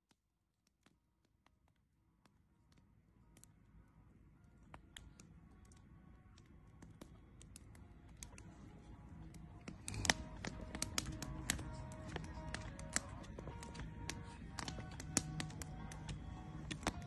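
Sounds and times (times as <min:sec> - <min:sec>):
faint crackling clicks: 0:00.6 - 0:17.0
background music: 0:03.3 - 0:17.0.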